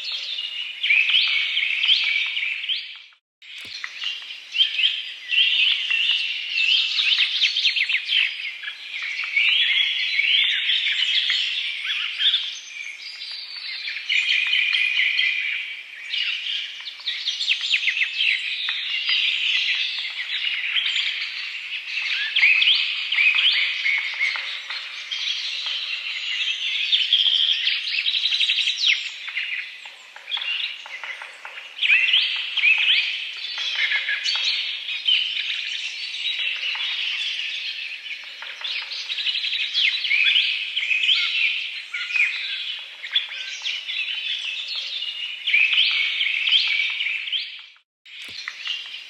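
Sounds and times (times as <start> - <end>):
small birds chirping and trilling: 0.0 - 49.0.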